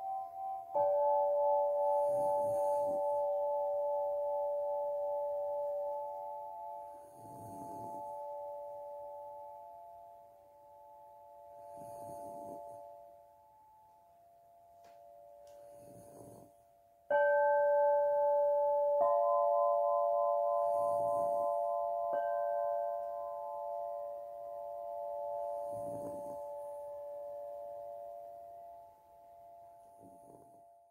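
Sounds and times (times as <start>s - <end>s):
crystal harp ringing: 0.0s - 14.1s, 17.1s - 29.8s
soft background noise: 0.0s - 30.9s.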